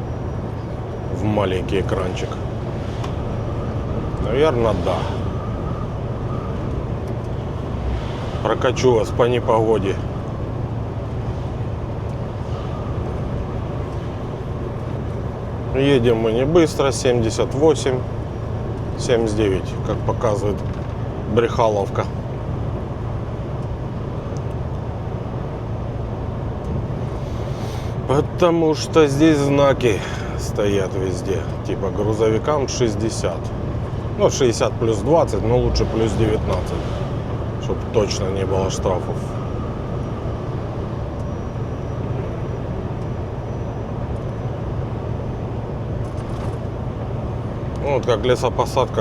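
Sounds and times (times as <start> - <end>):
faint high whine: 0.0 - 20.4, 24.4 - 49.0
road and wind noise: 0.0 - 49.0
truck engine drone: 0.0 - 49.0.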